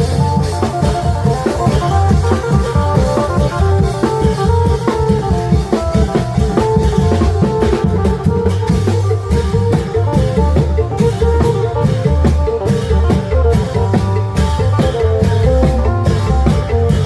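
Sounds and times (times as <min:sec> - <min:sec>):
deep long drums beating: 0:00.0 - 0:17.0.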